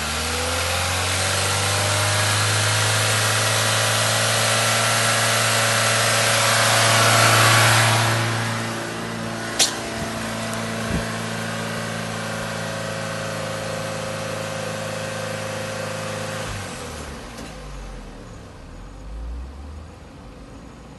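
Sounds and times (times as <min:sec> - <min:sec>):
car engine idling: 0:02.8 - 0:20.9.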